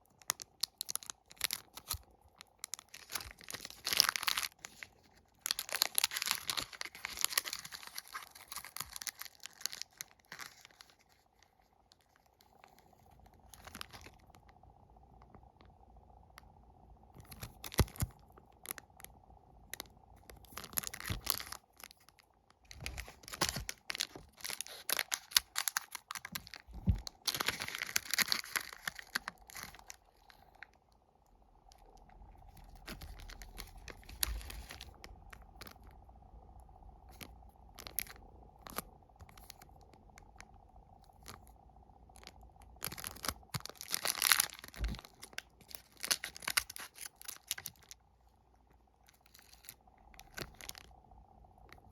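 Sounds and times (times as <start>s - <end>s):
plastic wrappers tearing and crinkling: 0.1s - 14.3s, 17.2s - 19.0s, 19.8s - 30.7s, 31.8s - 35.9s, 37.1s - 39.8s, 42.1s - 48.0s, 49.0s - 50.9s.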